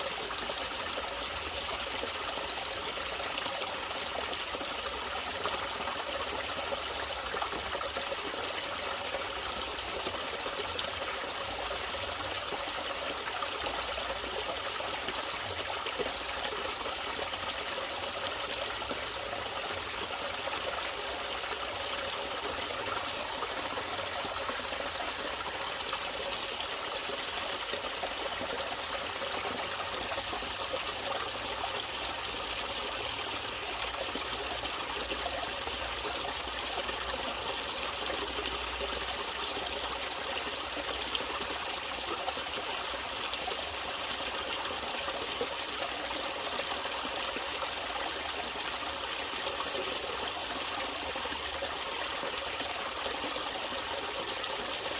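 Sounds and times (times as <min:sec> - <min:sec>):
water trickling and flowing: 0:00.0 - 0:54.9.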